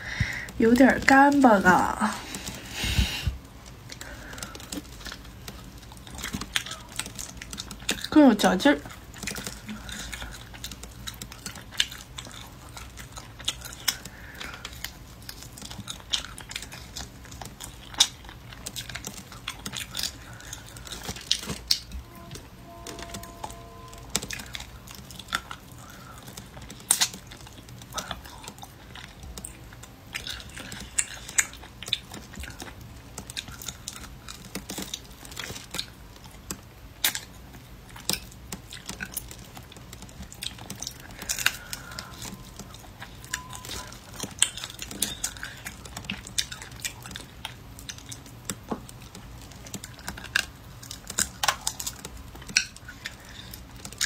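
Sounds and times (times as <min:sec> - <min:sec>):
chewing and gnawing meat: 0:00.1 - 0:54.0
lip and teeth clicks and smacks: 0:03.4 - 0:08.1, 0:08.8 - 0:22.0, 0:23.1 - 0:54.0.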